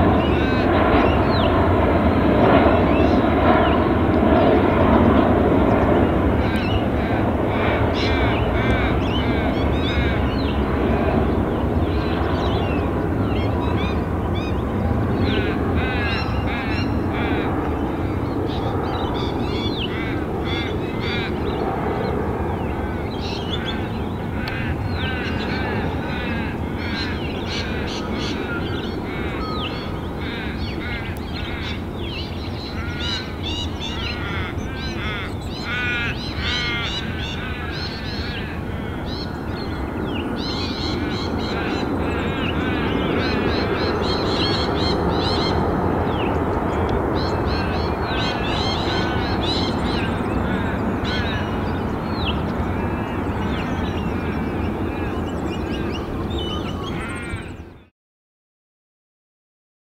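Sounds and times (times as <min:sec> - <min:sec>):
birds calling harshly: 0:00.0 - 0:57.9
distant jet airliner rumble: 0:00.0 - 0:57.9.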